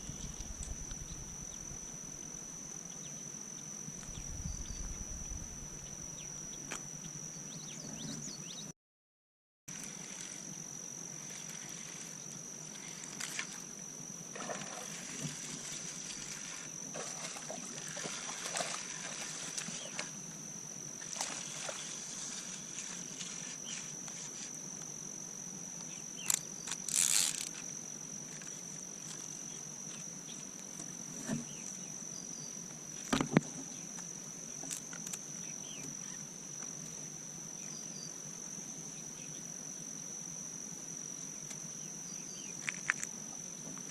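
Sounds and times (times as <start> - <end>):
insects droning: 0.0 - 8.7, 9.7 - 43.9.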